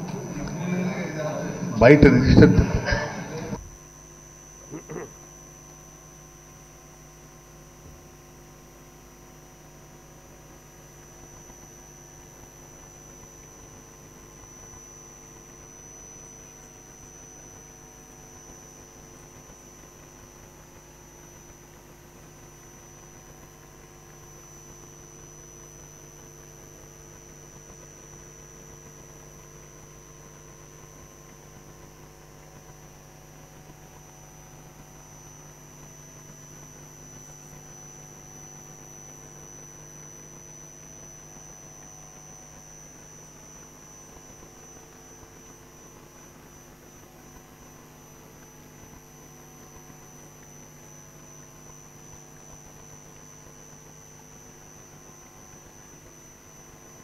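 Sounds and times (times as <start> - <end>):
electrical hum and hiss: 0.0 - 57.0.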